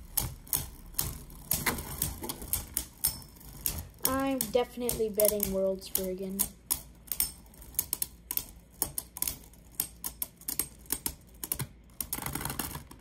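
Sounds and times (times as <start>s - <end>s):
spinning tops clacking: 0.0s - 10.9s
spinning tops rattling: 0.0s - 11.3s.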